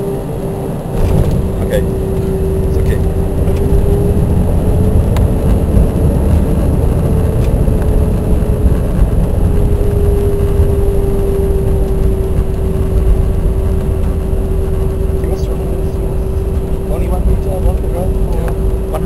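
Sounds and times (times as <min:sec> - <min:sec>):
aircraft cabin rumble: 0:00.0 - 0:19.0
steady hum: 0:00.0 - 0:19.0.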